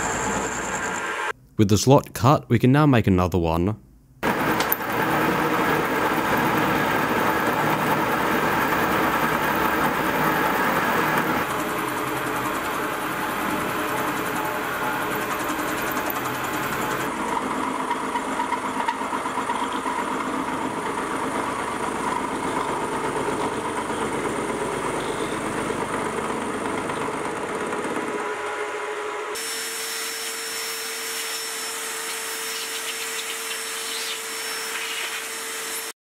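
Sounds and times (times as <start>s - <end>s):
milling machine cutting steel: 4.2s - 28.3s, 29.4s - 35.9s
shop vacuum whining: 4.2s - 36.0s.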